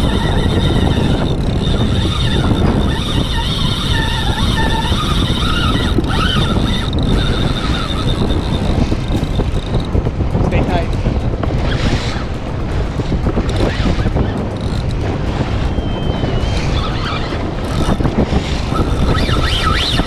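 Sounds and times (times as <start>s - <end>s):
boat engine rumbling: 0.0s - 20.0s
wind buffeting microphone: 0.0s - 20.0s.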